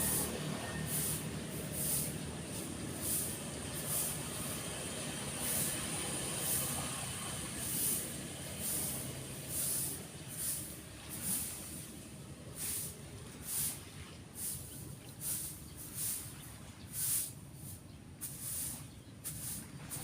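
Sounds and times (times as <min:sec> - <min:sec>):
vehicle engine rumbling: 0:00.0 - 0:20.0
waves breaking: 0:00.0 - 0:20.0.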